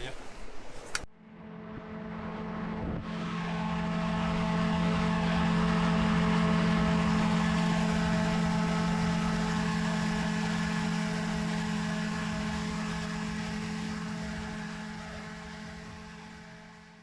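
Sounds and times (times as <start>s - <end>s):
airboat engine and propeller humming: 0.0s - 17.0s.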